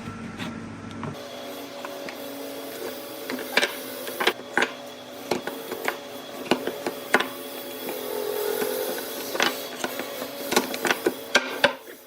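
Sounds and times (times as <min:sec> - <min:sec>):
workshop machine humming: 0:00.0 - 0:12.0.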